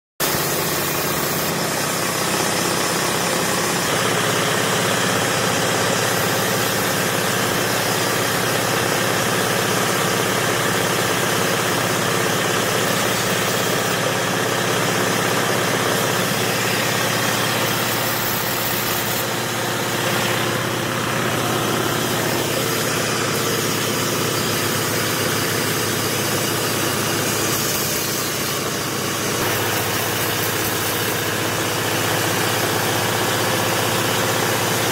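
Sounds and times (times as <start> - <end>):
band saw cutting timber: 0.2 - 34.9.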